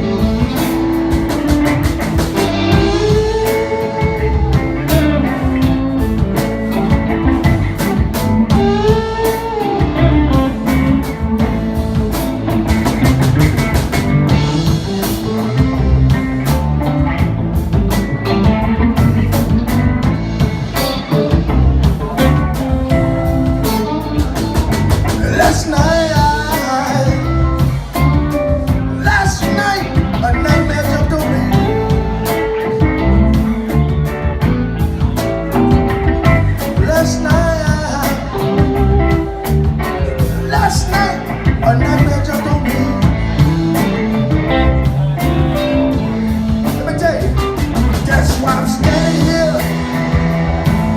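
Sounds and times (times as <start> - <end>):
blues guitar with bent notes: 0.0 - 50.9
drum kit: 0.0 - 50.9.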